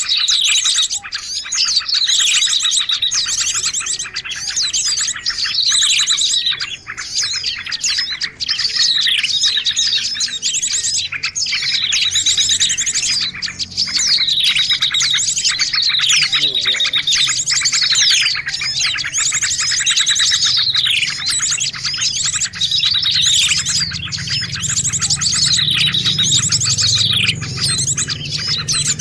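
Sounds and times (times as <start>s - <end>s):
falling bird call: 0.0s - 29.0s
fast chattering bird trill: 0.0s - 29.0s
songbirds chirping and trilling: 0.0s - 29.0s.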